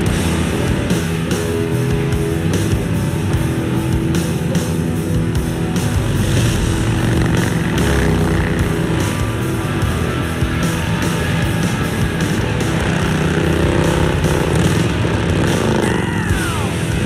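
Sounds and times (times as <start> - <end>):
motorcycles riding: 0.0 - 17.0
rock music with guitar and drums: 0.0 - 17.0.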